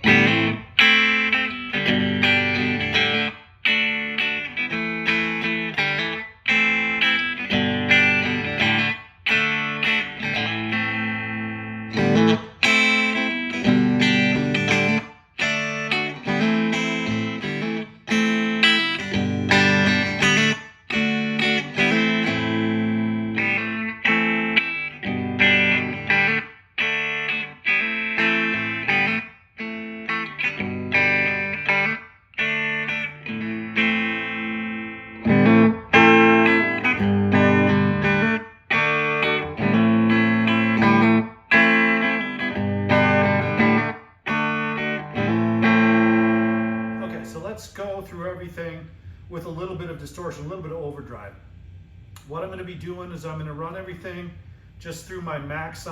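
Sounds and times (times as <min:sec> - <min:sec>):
electric guitar lick: 0:00.0 - 0:47.5.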